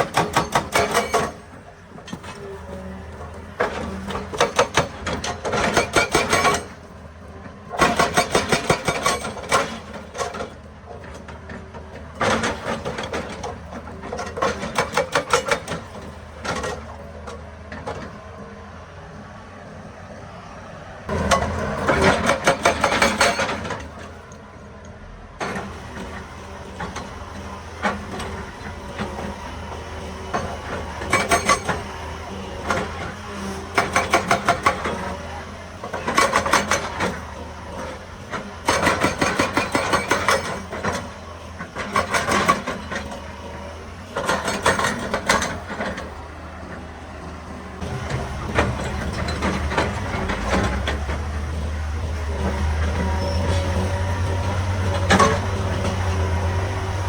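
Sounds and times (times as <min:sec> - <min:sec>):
hydraulic rock breaker hammering rock: 0:00.0 - 0:18.2, 0:21.1 - 0:24.7, 0:25.4 - 0:57.0
diesel engine running: 0:00.0 - 0:57.0.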